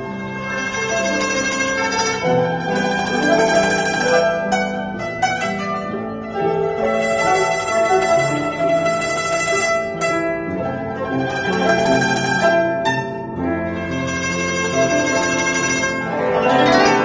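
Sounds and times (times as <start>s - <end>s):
plucked zither melody: 0.0s - 17.0s.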